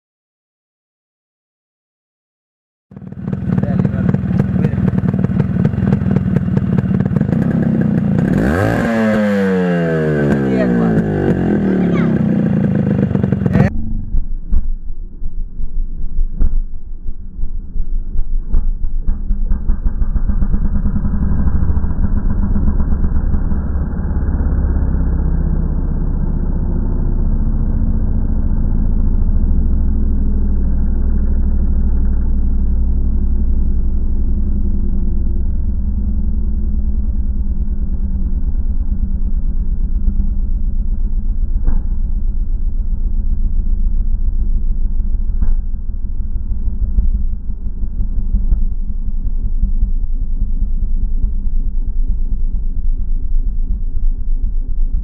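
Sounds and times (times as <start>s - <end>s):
two-stroke motorcycle engine running: 2.9s - 55.0s.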